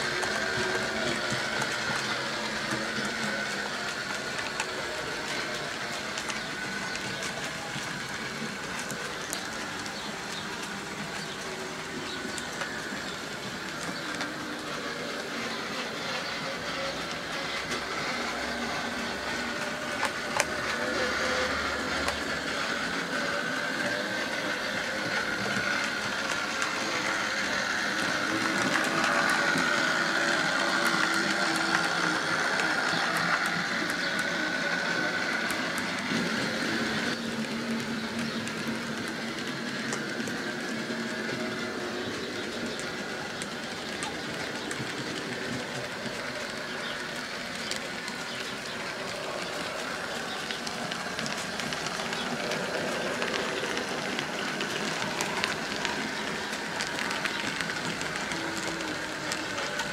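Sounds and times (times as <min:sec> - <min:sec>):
electric motor whine: 0:00.0 - 0:59.9
wheels clicking over rail joints: 0:00.0 - 0:59.9.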